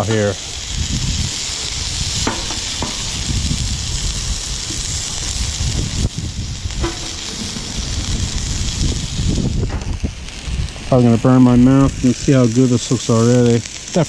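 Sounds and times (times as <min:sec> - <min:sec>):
food sizzling on a griddle: 0:00.0 - 0:14.0
low rumble: 0:00.8 - 0:12.6.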